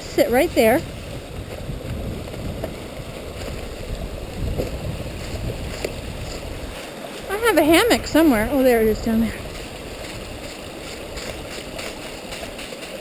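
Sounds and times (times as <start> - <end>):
stream water rushing: 0.0 - 13.0
wind rumble on microphone: 0.0 - 13.0.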